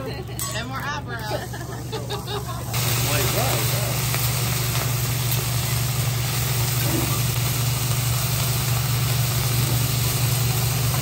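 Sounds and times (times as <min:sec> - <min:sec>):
vegetables sizzling on a griddle: 0:00.0 - 0:11.0.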